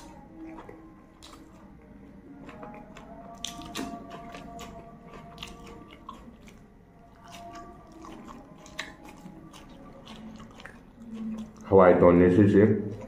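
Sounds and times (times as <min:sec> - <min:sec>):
crunching raw vegetables: 0:00.0 - 0:13.0.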